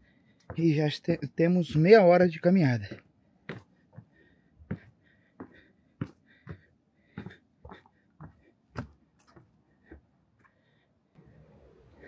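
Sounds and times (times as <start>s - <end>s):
footsteps going down steps: 0.0s - 10.6s.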